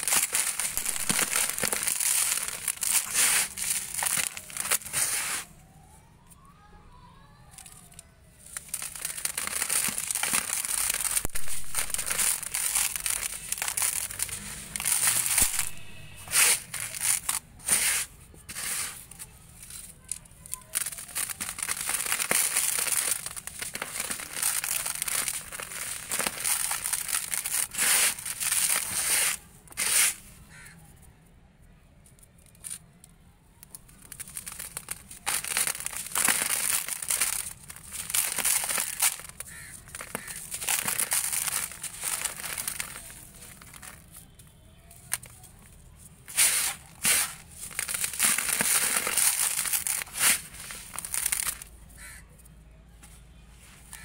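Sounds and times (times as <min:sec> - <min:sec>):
sand-cement lump crumbling in hands: 0:00.0 - 0:05.5, 0:07.6 - 0:30.8, 0:33.7 - 0:44.2, 0:45.0 - 0:52.2.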